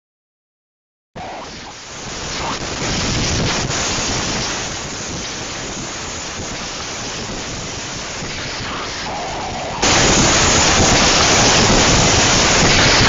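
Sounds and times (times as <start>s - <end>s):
driving rain: 1.2s - 13.0s
strong wind on microphone: 1.2s - 13.0s.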